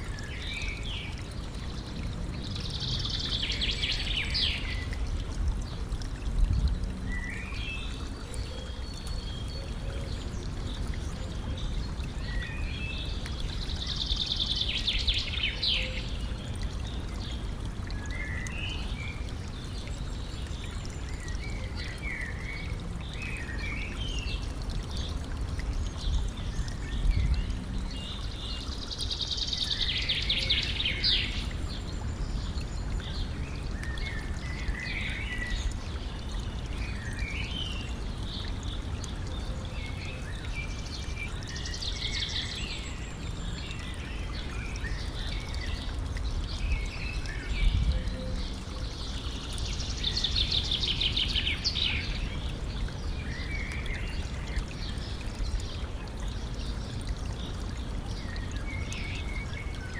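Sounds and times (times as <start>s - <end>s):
songbird singing: 0.0s - 59.9s
stream trickling and gurgling: 0.0s - 59.9s.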